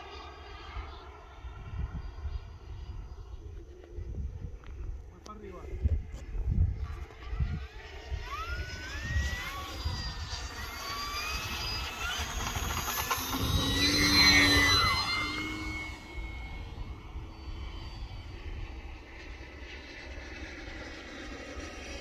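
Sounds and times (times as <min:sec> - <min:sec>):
model plane motor whining: 0:00.0 - 0:22.0
wind rumbling on microphone: 0:00.6 - 0:22.0.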